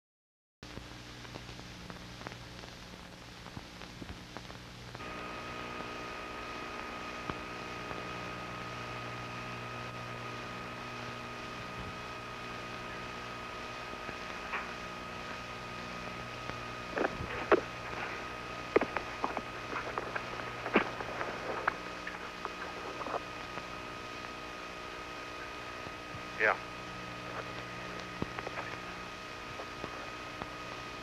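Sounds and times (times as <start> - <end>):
steady hum and hiss: 0.7 - 31.0
high-pitched whine: 5.0 - 31.0.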